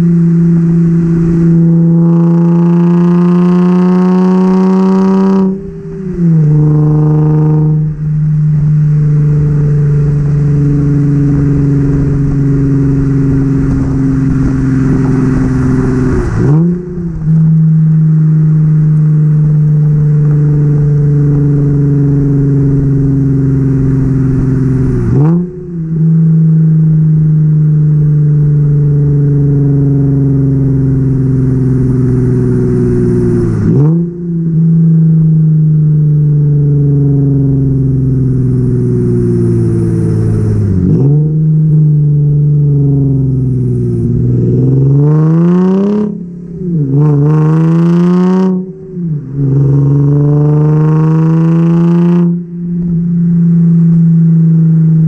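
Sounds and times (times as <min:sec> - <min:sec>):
loud car exhaust drone: 0:00.0 - 0:55.0.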